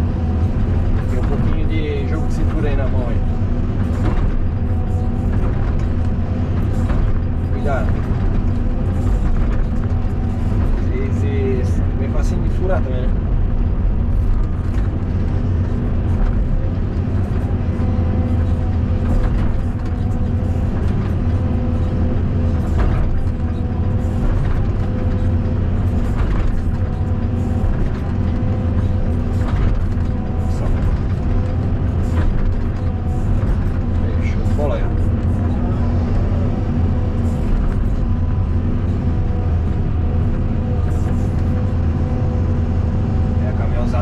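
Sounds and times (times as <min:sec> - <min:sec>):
excavator diesel engine: 0:00.0 - 0:44.0.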